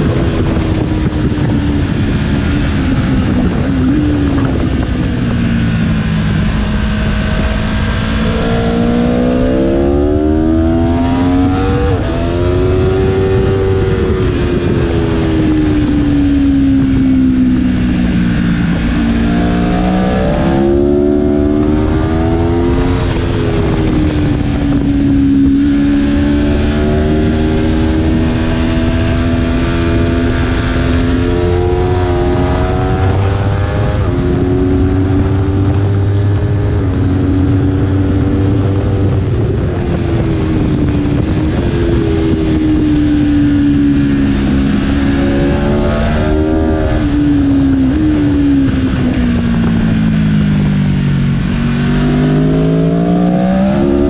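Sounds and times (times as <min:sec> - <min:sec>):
motorcycle engine revving: 0:00.0 - 0:54.0
wind rush over microphone: 0:00.0 - 0:54.0.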